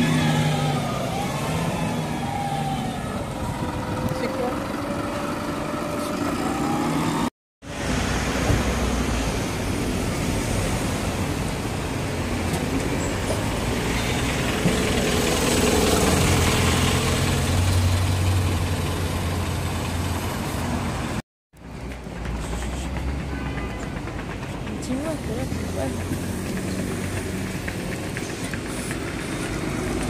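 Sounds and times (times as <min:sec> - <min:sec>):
bus passing close by: 0:00.0 - 0:30.0
city street traffic: 0:00.0 - 0:30.0.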